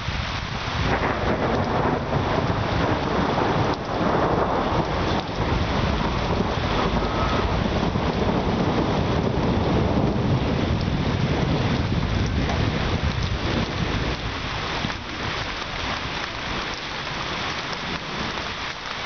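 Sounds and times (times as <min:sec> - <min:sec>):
heavy rain on paving: 0:00.0 - 0:19.0
deep rumble: 0:00.8 - 0:16.8.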